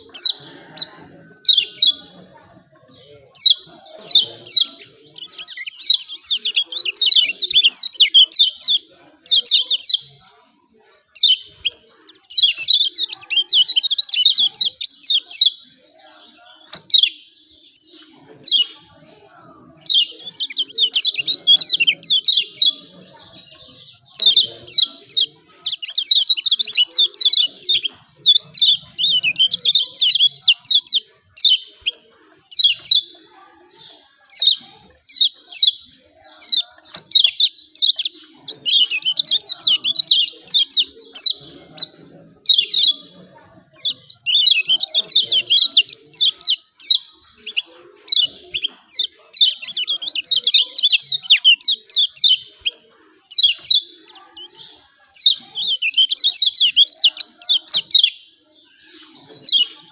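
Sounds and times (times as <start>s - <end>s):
bird chirping calls: 0.0s - 59.9s.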